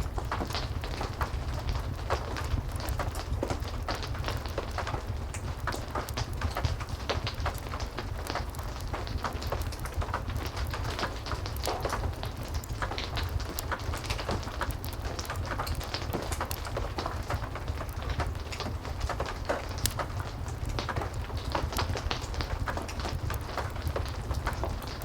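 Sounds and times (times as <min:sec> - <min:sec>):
heavy rain falling: 0:00.0 - 0:25.0
wood fire crackling: 0:00.0 - 0:25.0.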